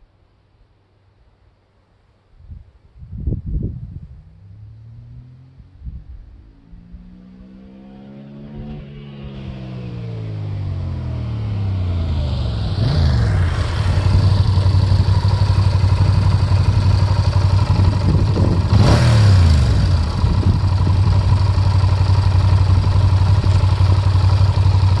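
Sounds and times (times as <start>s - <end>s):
motorcycle engine slowing and idling: 3.5s - 25.0s.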